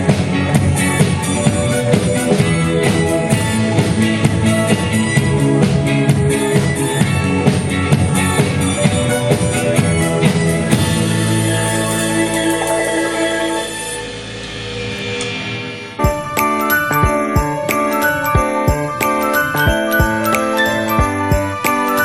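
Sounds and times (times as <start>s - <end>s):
pop-rock band music: 0.0s - 22.0s
steady drum beat: 0.0s - 22.0s.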